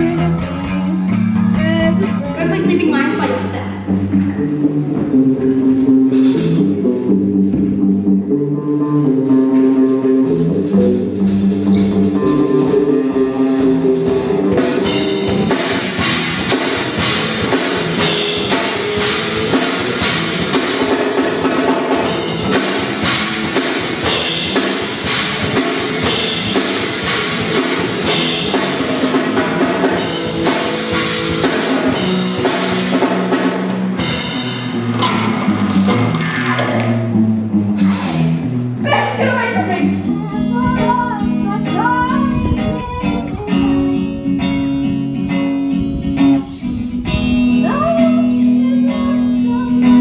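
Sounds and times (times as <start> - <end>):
drum kit steady beat: 0.0 - 42.2
band music with guitar: 0.0 - 50.0.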